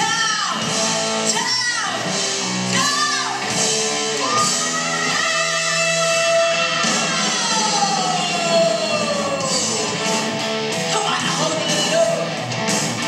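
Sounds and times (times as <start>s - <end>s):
rock music with electric guitar: 0.0s - 13.0s.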